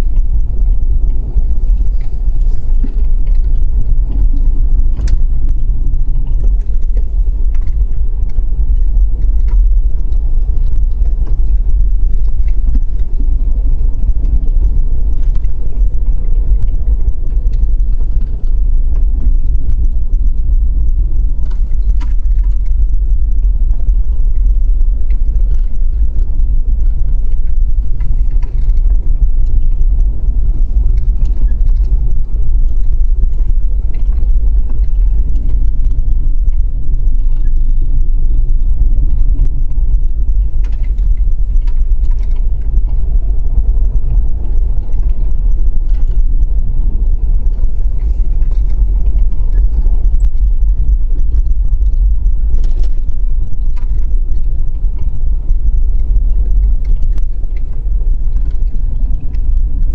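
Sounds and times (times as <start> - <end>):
faint rattles and clicks: 0.0 - 59.9
vehicle interior rumble: 0.0 - 59.9.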